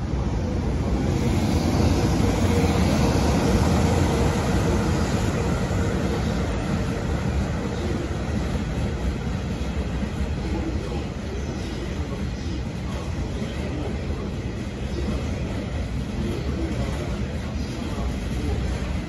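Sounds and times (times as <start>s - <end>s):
freight train passing: 0.0s - 19.0s.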